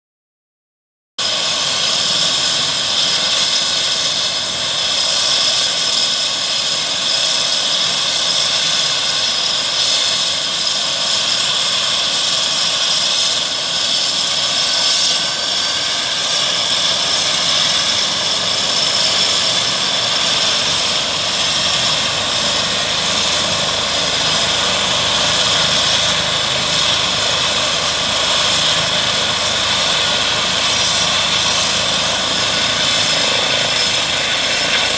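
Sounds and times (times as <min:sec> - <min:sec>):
helicopter turbine whine: 0:01.2 - 0:34.9.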